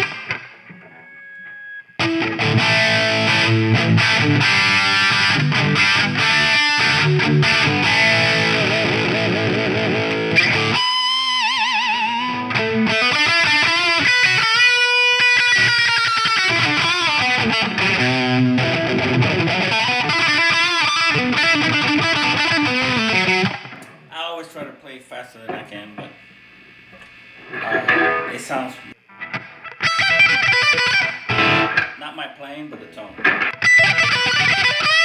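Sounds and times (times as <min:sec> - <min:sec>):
distorted electric guitar: 0:00.0 - 0:24.1, 0:25.4 - 0:35.0.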